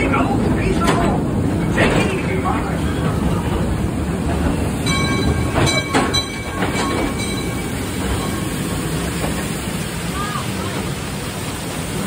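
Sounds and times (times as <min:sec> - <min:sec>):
ride cars rumbling on track: 0:00.0 - 0:12.0
track clacks: 0:00.0 - 0:12.0.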